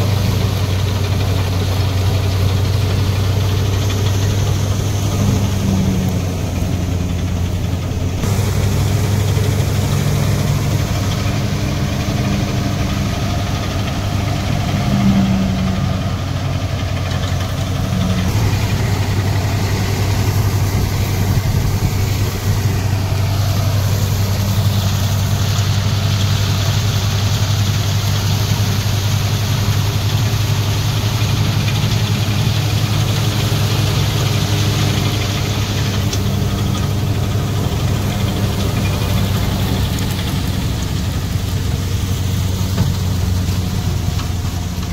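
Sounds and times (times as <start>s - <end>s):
steady machine hiss: 0.0s - 15.0s, 15.8s - 44.9s
tractor diesel engine under load: 0.0s - 44.9s.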